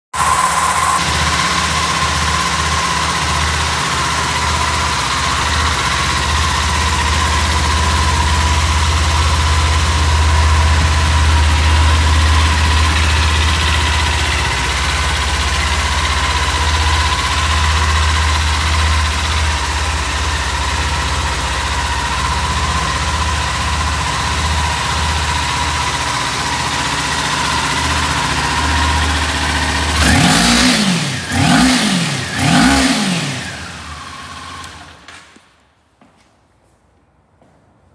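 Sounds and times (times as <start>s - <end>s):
motorcycle engine idling and revving: 0.1s - 35.6s.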